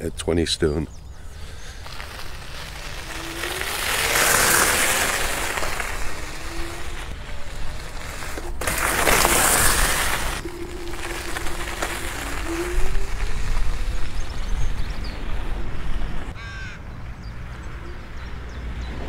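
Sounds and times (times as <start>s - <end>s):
tyres crunching on gravel: 0.0s - 16.7s.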